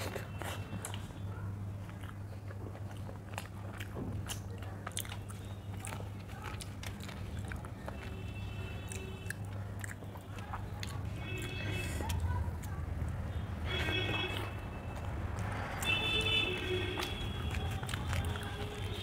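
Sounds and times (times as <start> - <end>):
fingers tearing bread: 0.0 - 13.2, 14.0 - 19.0
close chewing: 0.0 - 19.0.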